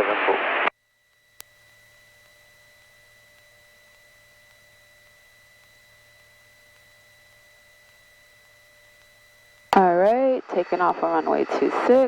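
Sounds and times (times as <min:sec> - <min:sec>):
headset electrical hiss and hum: 0:00.0 - 0:12.0
thin steady whine tones: 0:00.4 - 0:12.0.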